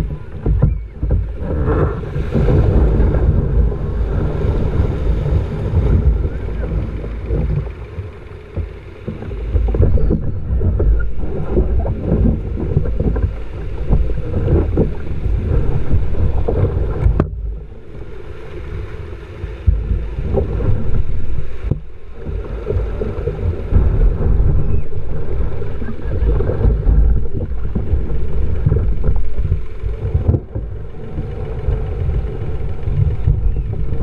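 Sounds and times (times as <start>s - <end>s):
surf breaking: 0.0s - 34.0s
wind buffeting microphone: 0.0s - 34.0s.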